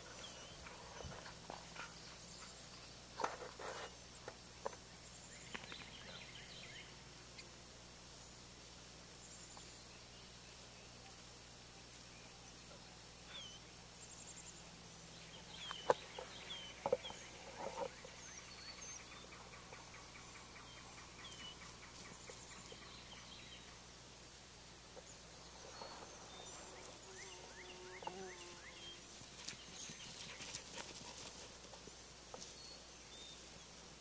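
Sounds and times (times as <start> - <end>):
birds chirping faintly: 0.0 - 34.0.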